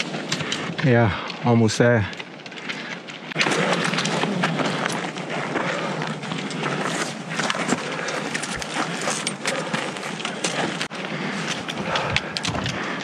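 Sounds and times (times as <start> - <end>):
footsteps on rocky trail: 0.0 - 13.0
clicks and rustling: 2.1 - 13.0.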